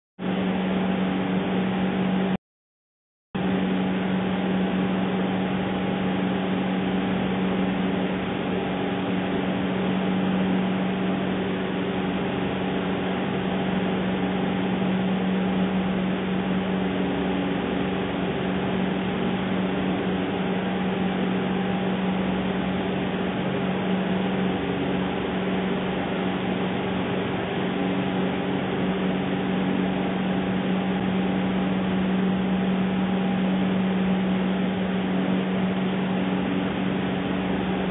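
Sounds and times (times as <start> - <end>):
steady low hum: 0.2 - 2.4, 3.4 - 37.9.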